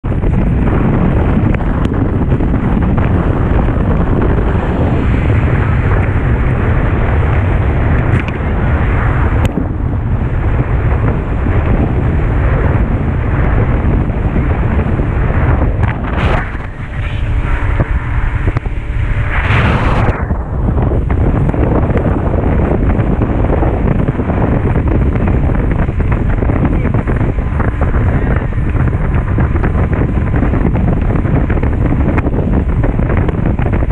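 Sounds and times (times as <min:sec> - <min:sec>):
boat engine: 0:00.0 - 0:33.9
wind buffeting microphone: 0:00.0 - 0:33.9
water rushing past hull: 0:00.1 - 0:33.9.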